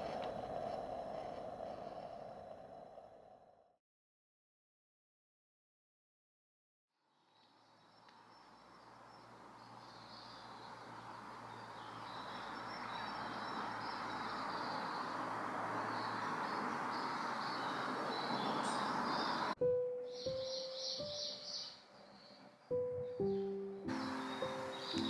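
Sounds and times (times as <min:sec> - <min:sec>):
rushing forest background: 0:00.0 - 0:03.7, 0:07.2 - 0:25.0.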